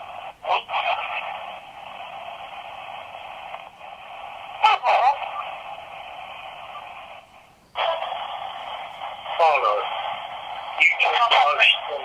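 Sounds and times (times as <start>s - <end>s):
choppy radio sound bursts: 0.0s - 12.0s
radio static hiss: 0.0s - 12.0s.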